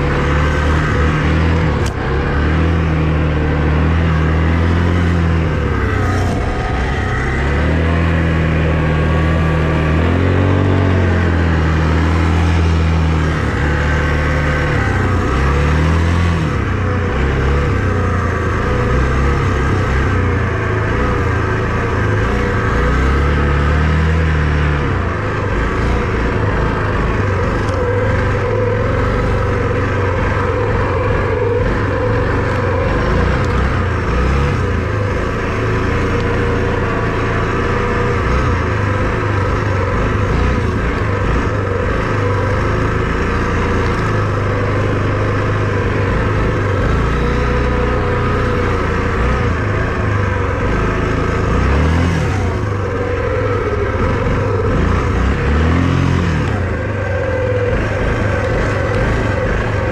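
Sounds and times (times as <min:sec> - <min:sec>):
small vehicle engine revving: 0:00.0 - 0:59.9.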